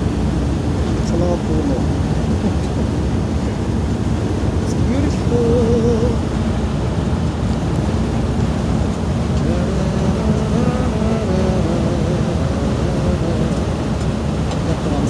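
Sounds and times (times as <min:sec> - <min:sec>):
coach road and engine rumble: 0:00.0 - 0:15.0.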